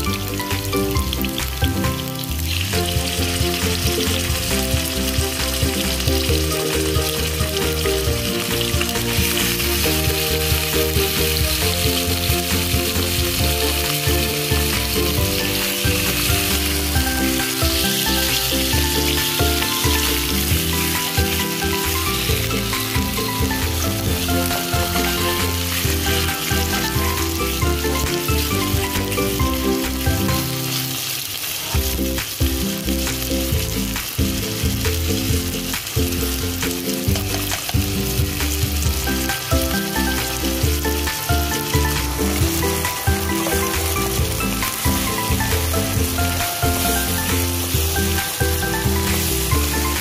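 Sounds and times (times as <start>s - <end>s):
background music: 0.0s - 50.0s
oil sizzling in a pan: 0.0s - 50.0s.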